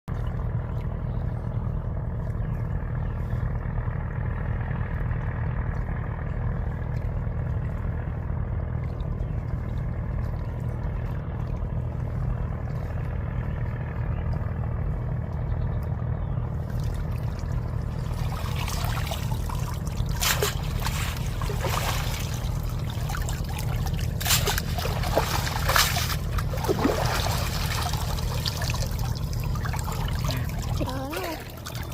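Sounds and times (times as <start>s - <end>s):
water splashing and dribbling: 0.1s - 4.0s, 4.8s - 31.9s
small boat engine at low revs: 0.1s - 31.9s.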